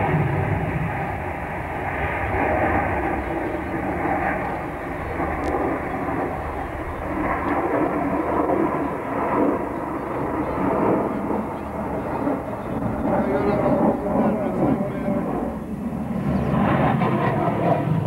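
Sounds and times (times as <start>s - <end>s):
jet fighter roar: 0.0s - 18.0s.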